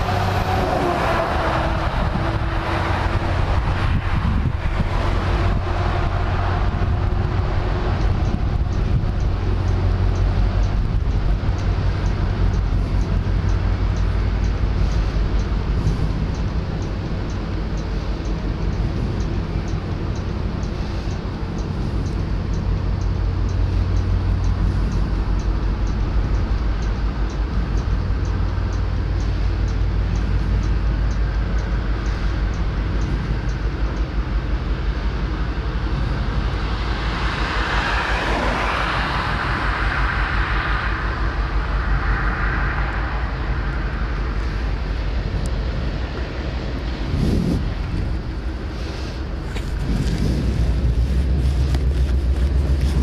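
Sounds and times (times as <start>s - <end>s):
vehicle passing: 0.0s - 26.5s, 34.8s - 53.0s.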